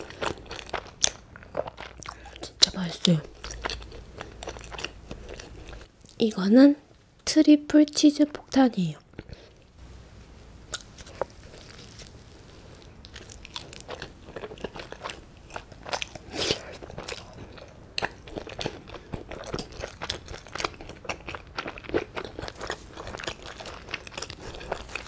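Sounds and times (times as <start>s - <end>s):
biting and chewing crusty bread: 0.0s - 5.9s, 10.7s - 25.0s.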